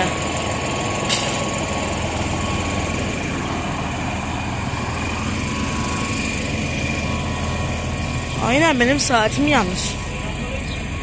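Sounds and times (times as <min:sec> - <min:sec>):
train engine idling: 0:00.0 - 0:11.0.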